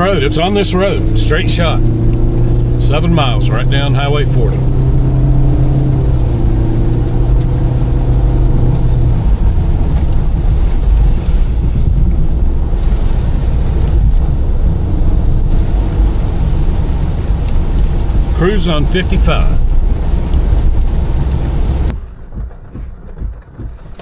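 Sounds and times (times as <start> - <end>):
low engine hum: 0.0 - 24.0
tyre noise on a wet road: 0.0 - 24.0.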